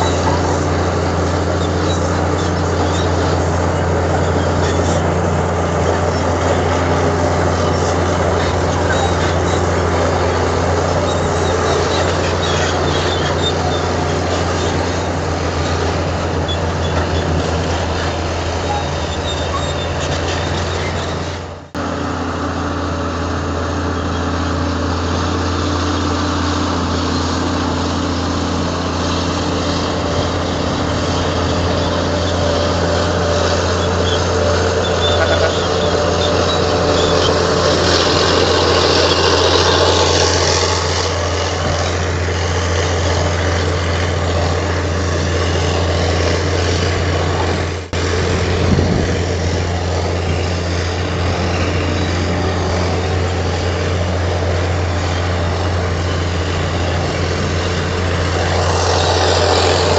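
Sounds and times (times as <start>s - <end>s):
heavy machinery engine hum: 0.0s - 59.9s.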